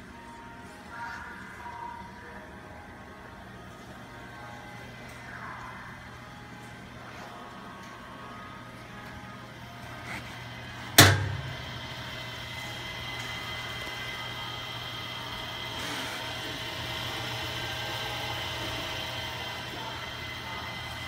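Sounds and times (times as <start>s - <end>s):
electric motor hum and whine: 0.0s - 21.0s.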